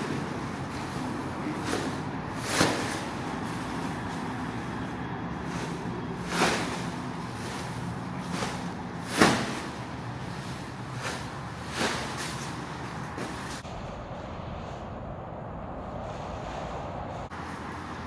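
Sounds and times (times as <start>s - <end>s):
fabric whooshing through air: 0.0s - 14.8s.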